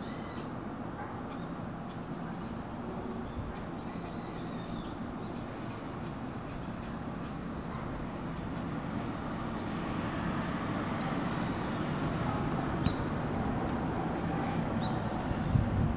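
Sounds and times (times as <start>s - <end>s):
distant traffic rumble: 0.0s - 15.9s.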